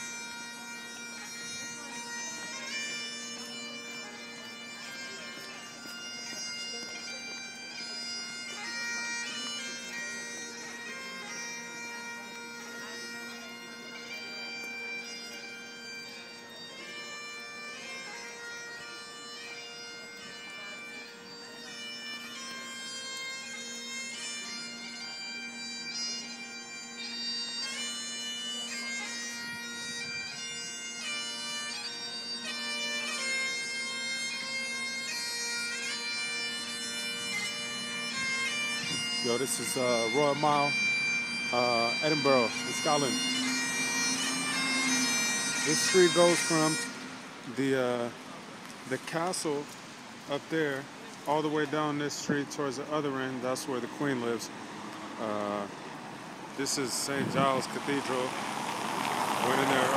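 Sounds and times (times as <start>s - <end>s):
bagpipes playing a tune: 0.0s - 59.9s.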